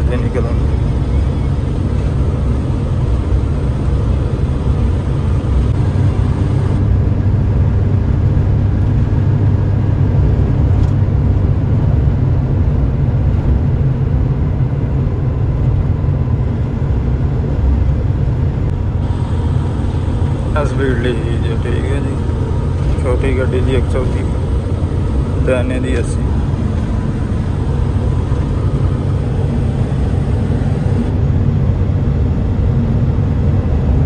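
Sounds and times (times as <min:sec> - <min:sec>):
truck engine and tyre rumble: 0:00.0 - 0:34.0.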